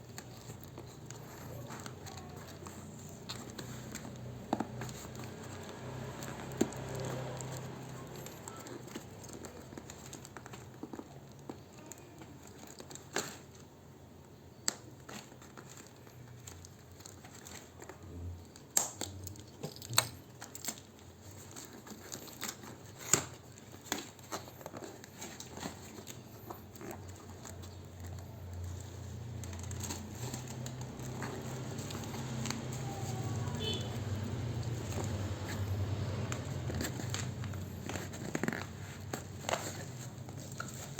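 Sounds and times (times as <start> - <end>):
crinkling plastic and paper: 0.0 - 40.9.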